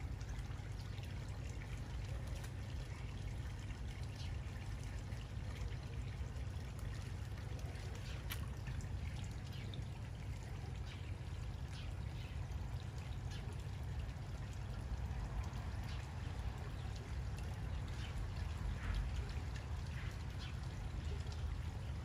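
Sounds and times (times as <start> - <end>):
pond water trickling: 0.0 - 22.0
small splashes and drips: 0.0 - 22.0.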